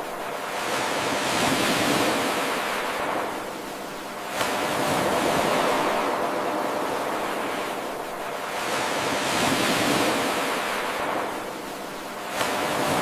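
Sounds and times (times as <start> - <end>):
ocean waves washing ashore: 0.0 - 13.0.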